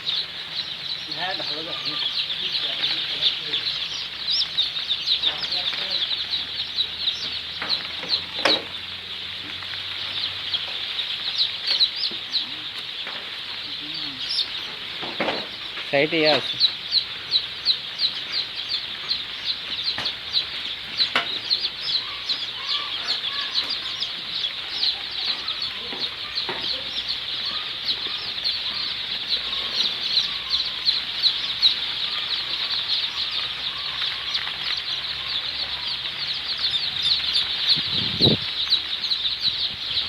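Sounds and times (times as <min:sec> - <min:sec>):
chicks peeping: 0:00.0 - 0:40.0.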